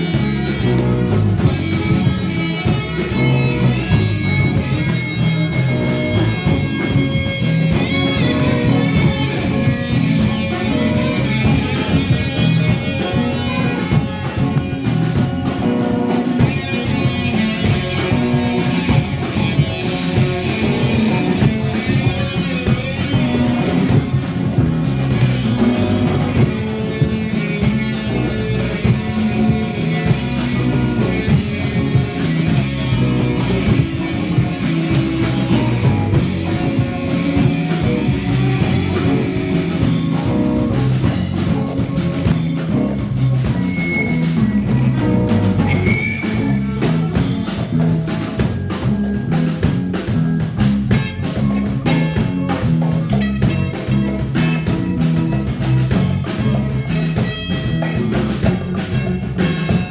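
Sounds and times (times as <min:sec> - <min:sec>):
drum kit beat: 0:00.0 - 0:59.9
electric bass: 0:00.0 - 0:59.9
electric guitar: 0:00.0 - 0:59.9.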